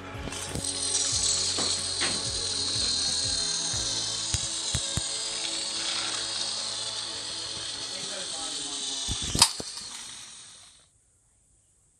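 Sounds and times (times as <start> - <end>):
toy train motor whirring: 0.3 - 10.8
sharp clicks: 0.4 - 10.8.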